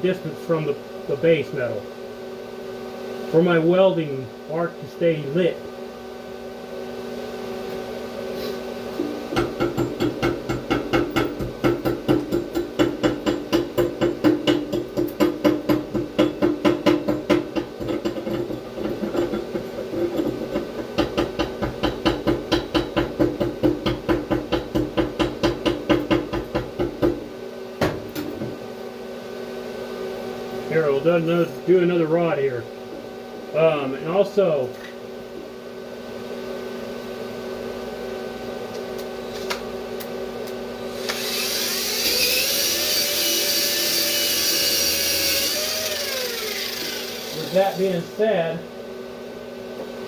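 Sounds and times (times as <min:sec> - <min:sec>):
steady machine hum: 0:00.0 - 0:50.0.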